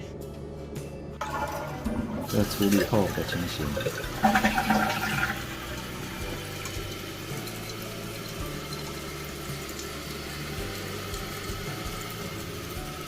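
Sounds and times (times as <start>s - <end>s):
toilet cistern refilling: 1.2s - 13.0s.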